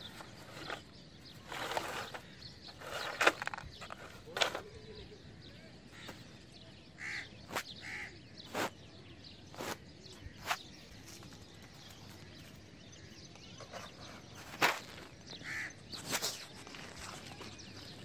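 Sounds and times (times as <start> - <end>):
footsteps crunching on stony ground: 0.0 - 4.7, 7.0 - 8.8, 9.6 - 18.0.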